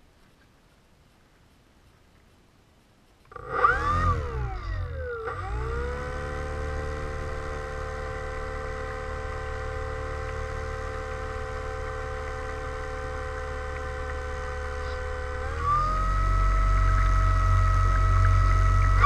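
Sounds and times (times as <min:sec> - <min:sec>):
model plane motor whining: 0:03.3 - 0:19.0
low rumble: 0:03.4 - 0:19.0.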